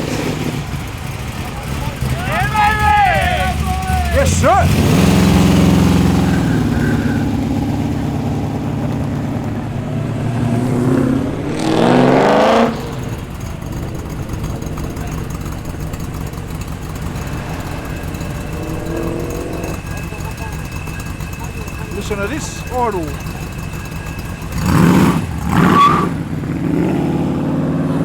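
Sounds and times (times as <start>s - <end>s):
car engine pulling away: 0.0s - 28.0s
car engine revving: 0.0s - 28.0s
engine running steadily: 0.0s - 28.0s.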